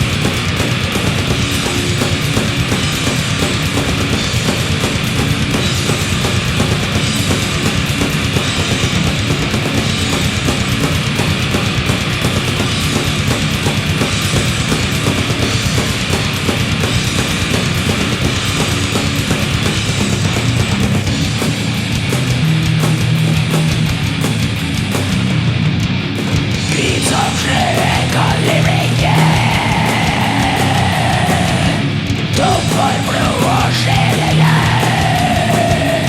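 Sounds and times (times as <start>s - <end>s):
black metal music: 0.0s - 36.0s.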